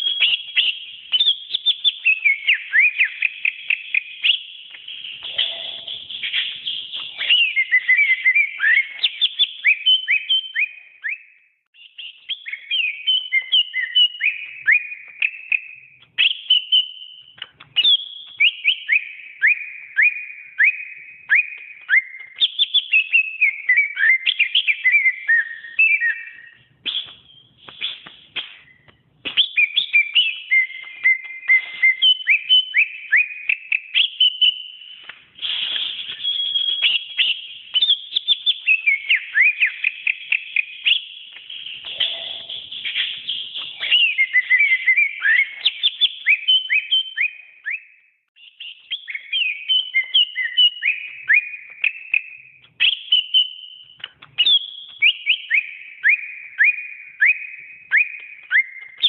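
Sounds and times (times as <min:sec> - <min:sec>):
bird singing whistled notes: 0:00.0 - 0:59.0.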